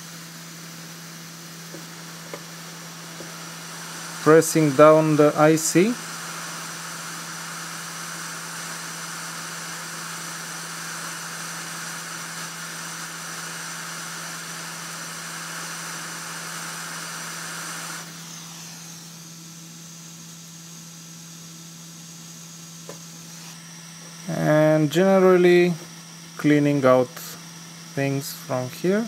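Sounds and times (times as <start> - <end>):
hot air hissing: 0.0 - 21.0, 21.9 - 29.0.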